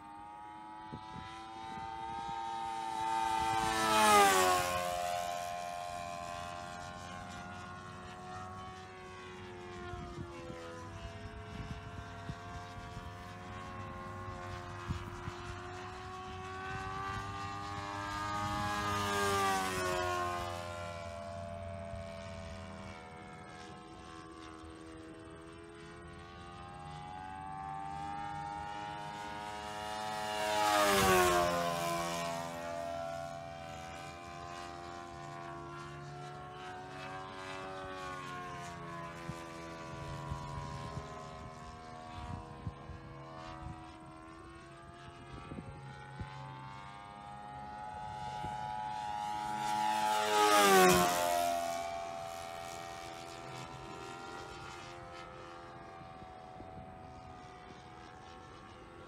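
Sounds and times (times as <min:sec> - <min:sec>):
model airplane engine buzzing: 0:00.0 - 0:59.0.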